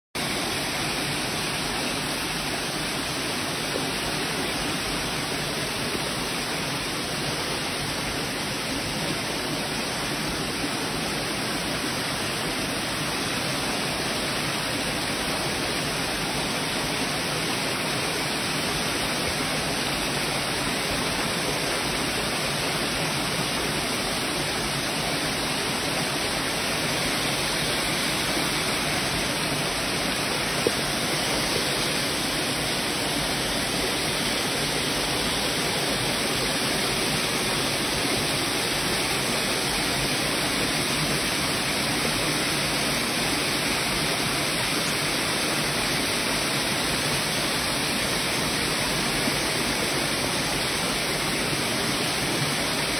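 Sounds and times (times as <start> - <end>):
water cascading over rocks: 0.2 - 52.9.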